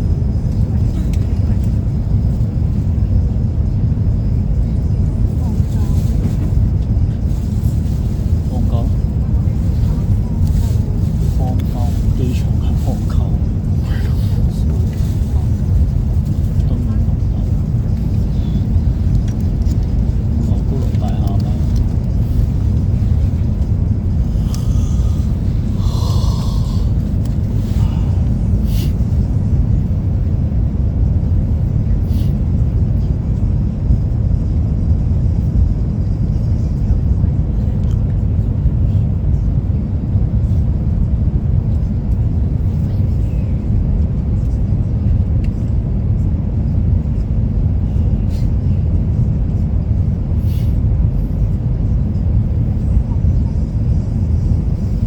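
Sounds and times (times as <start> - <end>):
vehicle interior rumble: 0.0 - 55.0.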